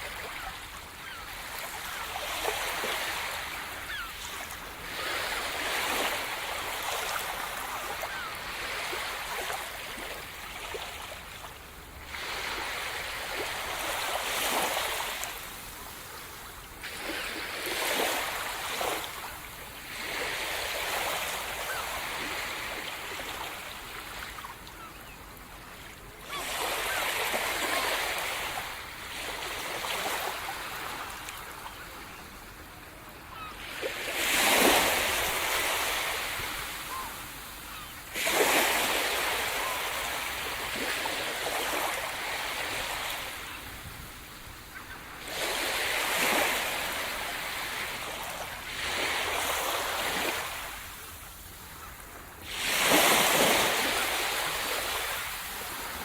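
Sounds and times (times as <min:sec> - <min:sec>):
waves breaking on shore: 0:00.0 - 0:56.0.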